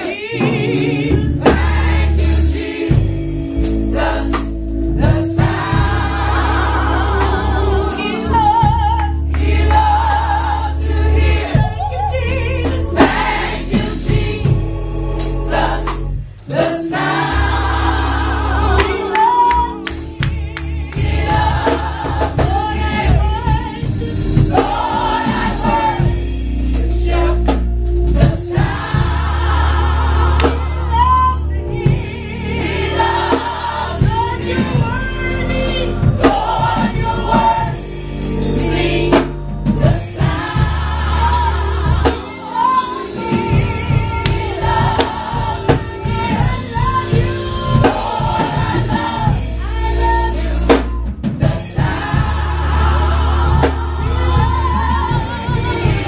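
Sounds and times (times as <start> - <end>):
drum kit and bass: 0.0 - 56.0
gospel choir singing: 0.0 - 56.0.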